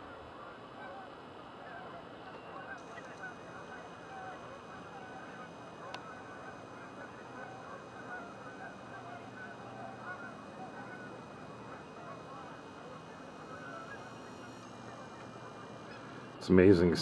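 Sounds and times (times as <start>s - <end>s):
distant geese honking: 0.0s - 17.0s.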